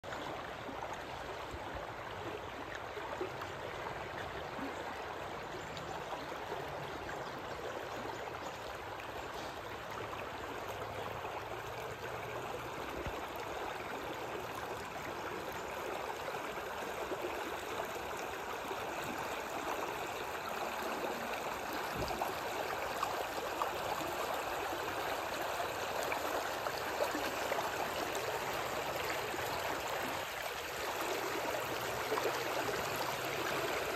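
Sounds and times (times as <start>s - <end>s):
river water flowing over stones: 0.0s - 33.9s.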